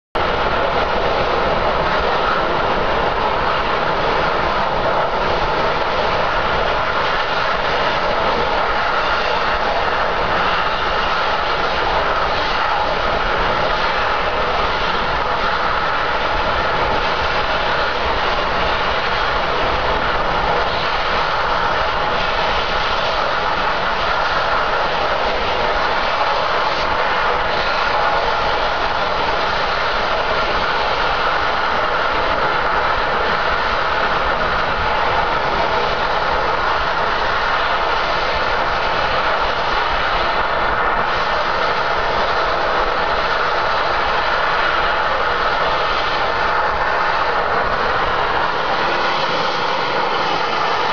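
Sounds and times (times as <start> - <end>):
high pressure gas hissing: 0.7 - 50.9.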